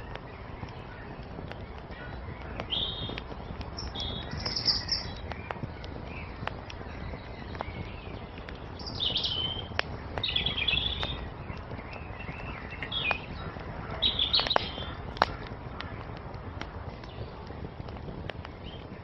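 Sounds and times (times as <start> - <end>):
birds chirping: 0.0 - 19.0
wood fire crackling: 0.0 - 19.0.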